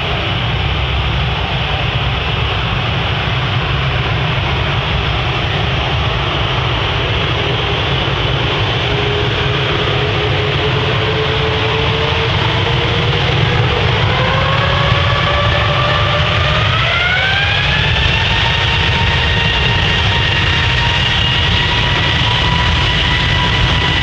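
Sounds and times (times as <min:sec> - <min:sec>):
jet airliner roar: 0:00.0 - 0:24.0
jet engine whine rising: 0:00.0 - 0:24.0.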